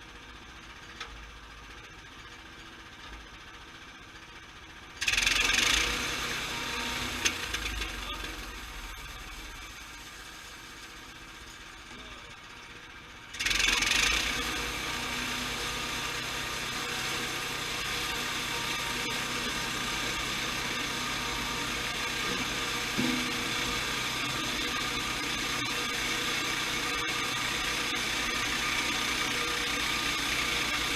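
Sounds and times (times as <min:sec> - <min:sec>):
sawmill running: 0:02.4 - 0:30.9.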